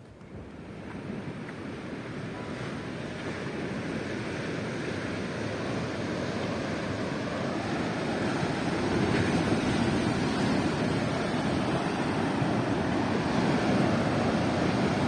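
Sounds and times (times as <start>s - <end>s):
sea waves rushing: 0.4s - 15.0s.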